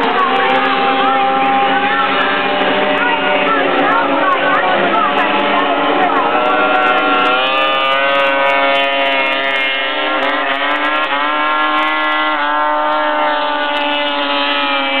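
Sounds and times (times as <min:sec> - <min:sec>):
snowmobile engines revving high: 0:00.0 - 0:15.0.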